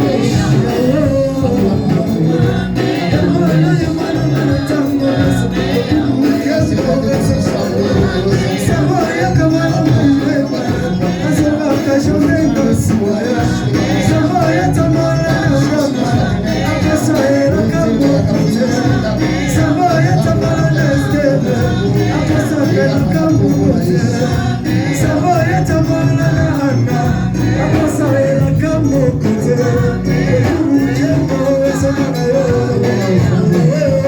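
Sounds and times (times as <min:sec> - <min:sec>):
shaken percussion: 0:00.0 - 0:34.0
worship singing over a band: 0:00.0 - 0:34.0.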